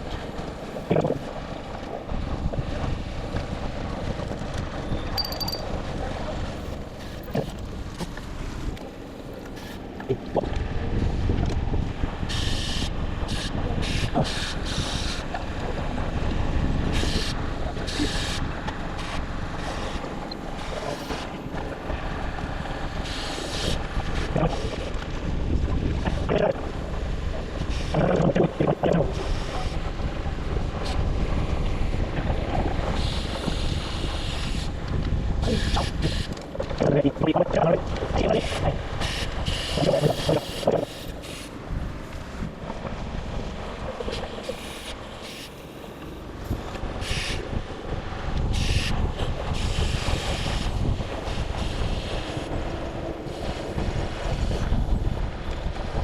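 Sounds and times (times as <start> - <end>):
wind buffeting microphone: 10.1 - 45.2, 46.2 - 56.0.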